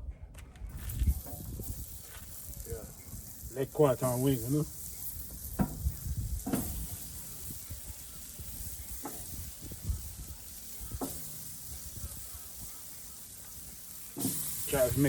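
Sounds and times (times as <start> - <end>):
chicken sizzling on grill: 0.7 - 15.0.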